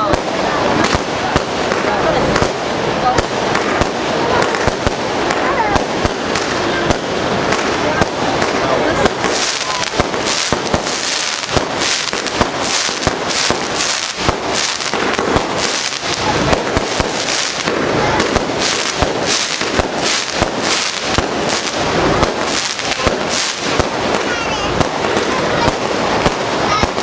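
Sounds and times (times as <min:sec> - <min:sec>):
fireworks bangs: 0:00.0 - 0:27.0
fireworks crackle: 0:00.0 - 0:27.0.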